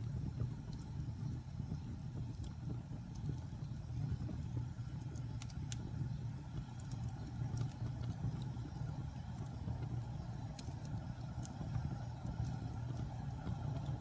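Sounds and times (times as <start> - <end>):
campfire flame rumble: 0.0 - 14.0
fire crackles and pops: 0.0 - 14.0.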